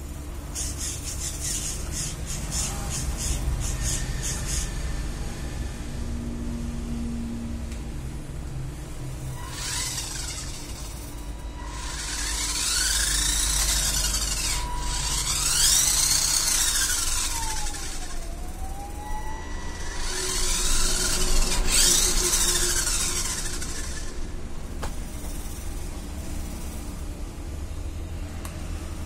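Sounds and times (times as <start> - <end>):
electric gear motors whining: 0.0 - 29.0.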